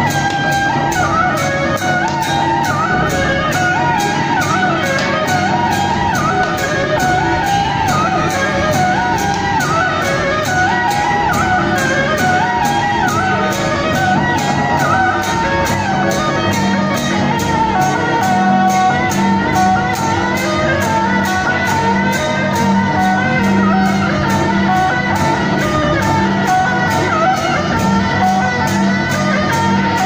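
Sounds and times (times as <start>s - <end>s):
procession music over loudspeakers: 0.0s - 30.0s.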